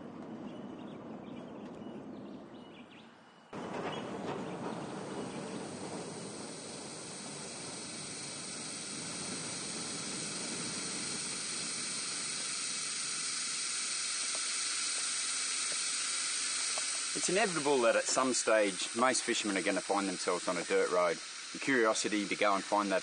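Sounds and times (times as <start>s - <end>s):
steady rushing hiss: 3.6s - 23.0s.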